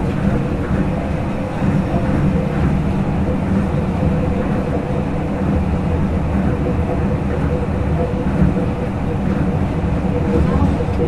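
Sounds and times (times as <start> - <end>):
train rumble on guideway: 0.0 - 11.0.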